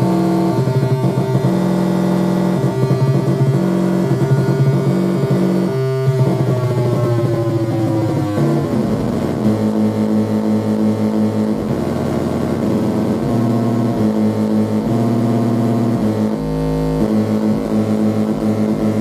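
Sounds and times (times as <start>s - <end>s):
buzzy pulsing electronic tone: 0.0s - 19.0s.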